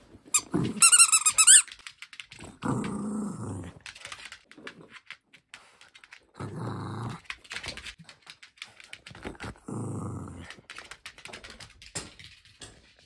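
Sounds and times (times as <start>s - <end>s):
dog play-growling: 0.2s - 5.2s, 5.9s - 11.6s.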